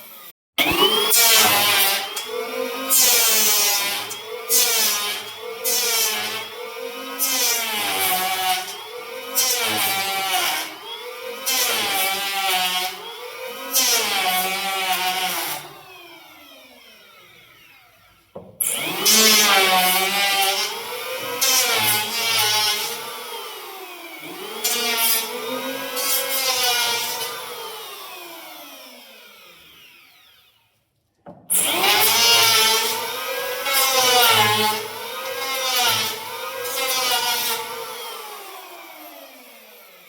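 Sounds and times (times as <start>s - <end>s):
electric planer shaving wood: 0.0s - 30.7s, 31.5s - 40.0s.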